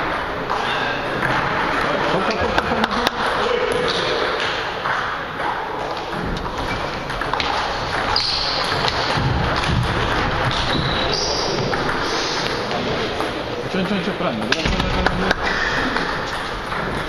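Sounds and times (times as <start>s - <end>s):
noisy background: 0.0s - 17.0s
ping-pong ball bouncing: 0.0s - 17.0s.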